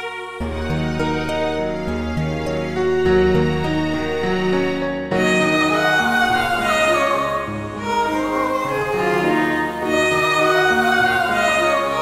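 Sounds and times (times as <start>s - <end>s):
violin melody with vibrato: 0.0s - 12.0s
held lower string notes: 0.4s - 12.0s.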